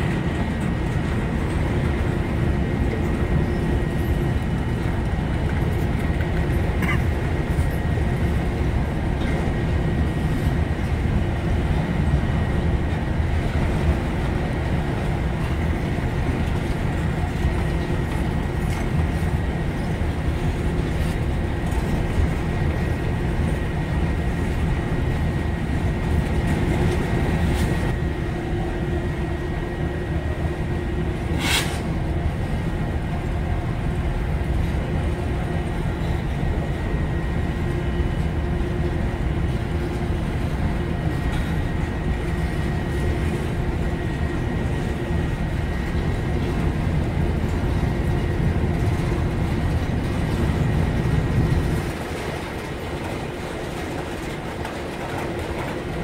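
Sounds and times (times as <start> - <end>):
steel wheels rumbling on track: 0.0 - 56.0.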